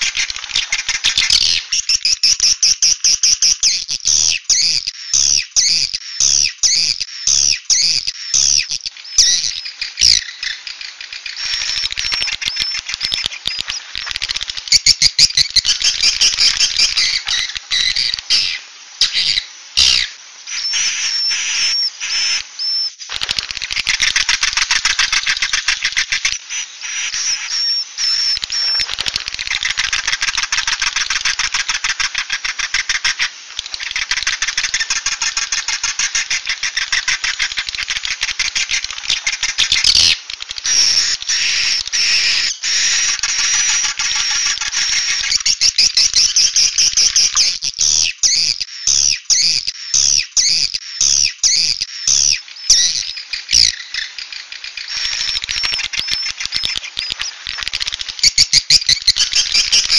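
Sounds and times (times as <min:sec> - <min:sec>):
high sharp bird chirps: 0:00.0 - 0:14.0, 0:14.7 - 0:23.0, 0:23.6 - 0:59.9.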